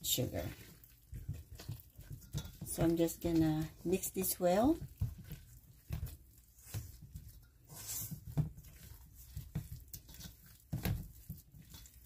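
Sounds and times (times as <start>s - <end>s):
spatula scraping dough in bowl: 0.0s - 12.0s.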